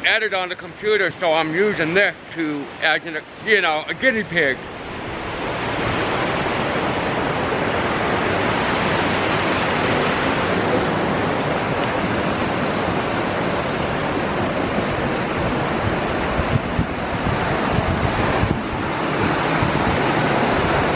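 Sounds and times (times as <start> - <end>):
strong wind: 1.7 - 20.9
heavy rain: 2.4 - 20.9.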